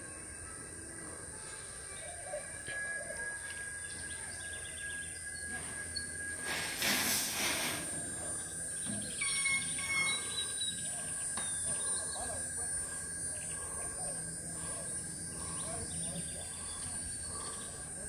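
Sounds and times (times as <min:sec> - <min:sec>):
birds chirping: 0:00.0 - 0:06.4, 0:08.1 - 0:18.0
high-pitched hum: 0:00.0 - 0:18.0.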